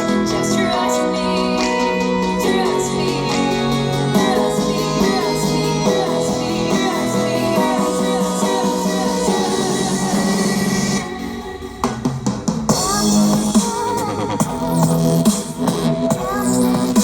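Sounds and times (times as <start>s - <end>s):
song with singing and guitar: 0.0s - 17.0s.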